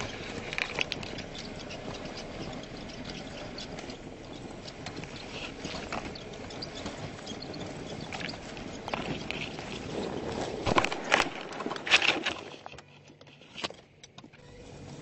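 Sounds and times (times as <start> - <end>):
stones crunching under tyres: 0.0 - 14.2.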